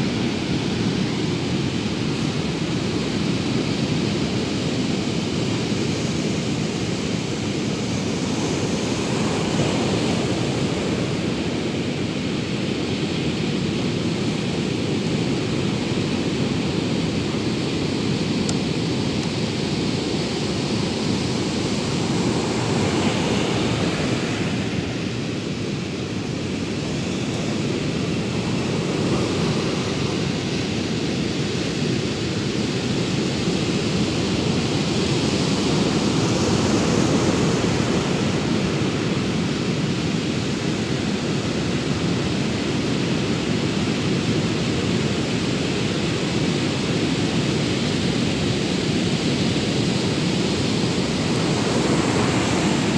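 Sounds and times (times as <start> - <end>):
surf on a sandy beach: 0.0 - 52.9
wind noise on microphone: 0.0 - 52.9.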